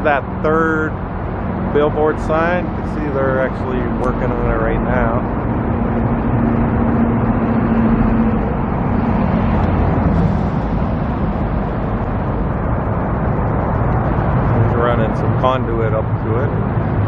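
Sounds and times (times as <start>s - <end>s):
low engine hum: 0.0s - 17.0s
traffic rumble: 0.0s - 17.0s.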